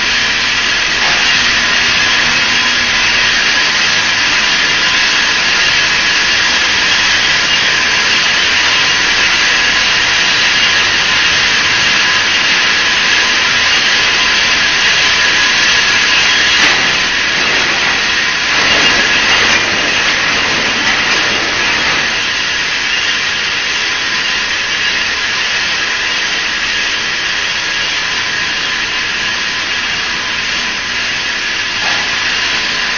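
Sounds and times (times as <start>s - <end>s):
machine whirring and hissing: 0.0s - 32.9s.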